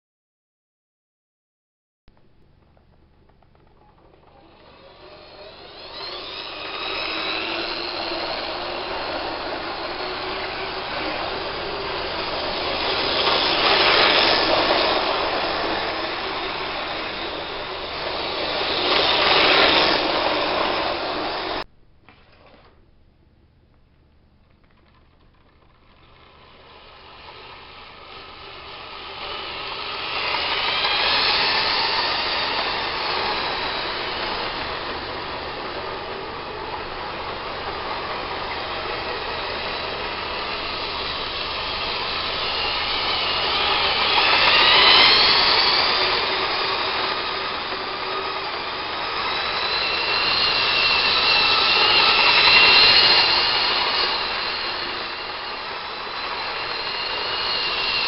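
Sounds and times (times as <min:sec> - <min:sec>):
model train wheels rolling on rails: 0:02.6 - 0:22.8, 0:24.4 - 0:58.0
model train motor whine: 0:03.2 - 0:21.6, 0:24.7 - 0:58.0.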